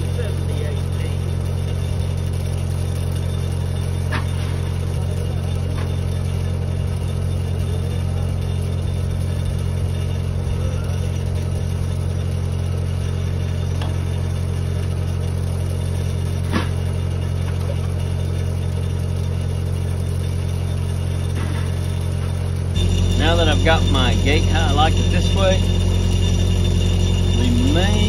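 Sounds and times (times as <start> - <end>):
welding machine engine drone: 0.0 - 28.0.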